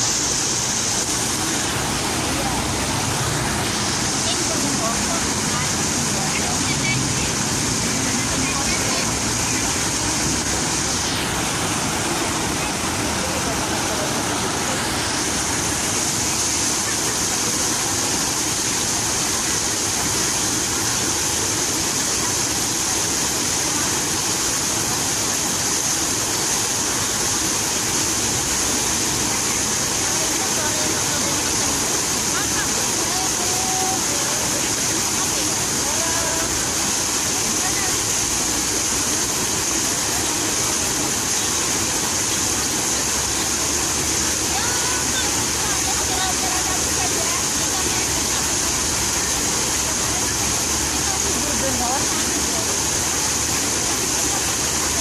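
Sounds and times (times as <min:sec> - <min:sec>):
fountain water splashing: 0:00.0 - 0:55.0.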